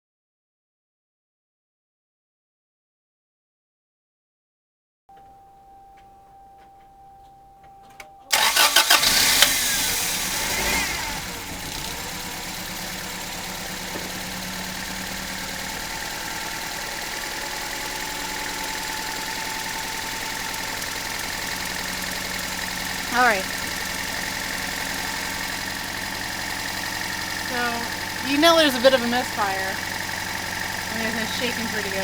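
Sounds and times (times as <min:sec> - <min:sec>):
car engine starting and idling: 0:05.1 - 0:32.0.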